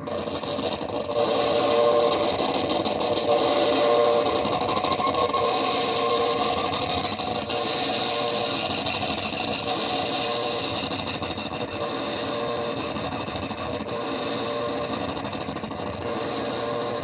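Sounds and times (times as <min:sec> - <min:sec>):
distorted electronic drone: 0:00.0 - 0:17.0.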